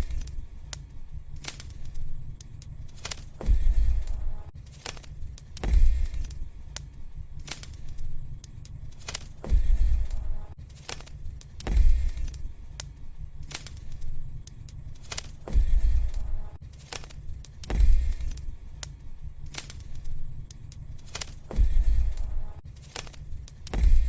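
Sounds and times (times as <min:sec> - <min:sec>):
fire popping and snapping: 0:00.0 - 0:24.0
wood fire crackling: 0:00.0 - 0:24.0.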